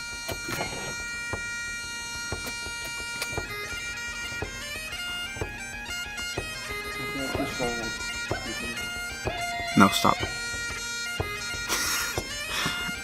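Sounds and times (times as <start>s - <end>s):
stepping melody: 0.2s - 13.0s
sharp beat: 0.3s - 13.0s.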